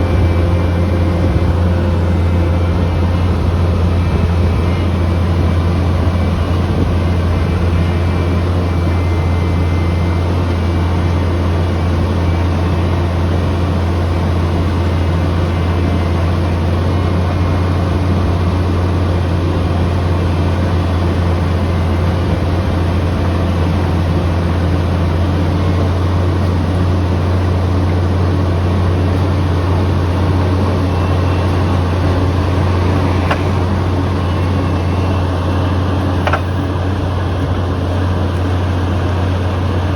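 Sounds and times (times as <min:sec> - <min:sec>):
diesel engine drone: 0:00.0 - 0:39.9.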